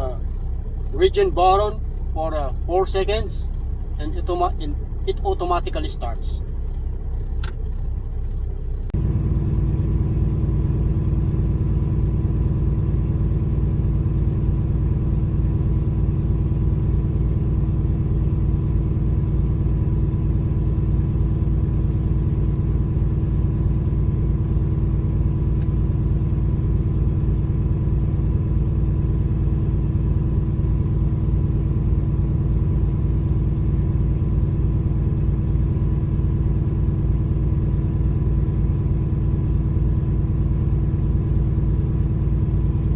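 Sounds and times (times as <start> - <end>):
truck diesel engine idling: 0.0 - 42.9.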